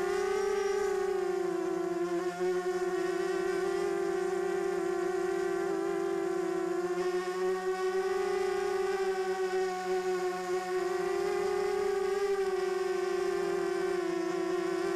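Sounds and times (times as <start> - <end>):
quadcopter propellers whining: 0.0 - 14.9.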